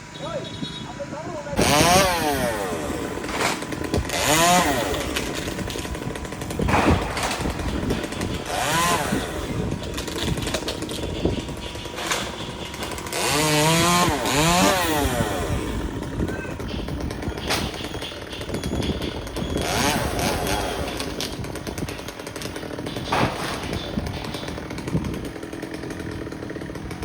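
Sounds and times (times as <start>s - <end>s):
chainsaw engine revving: 1.4s - 27.0s.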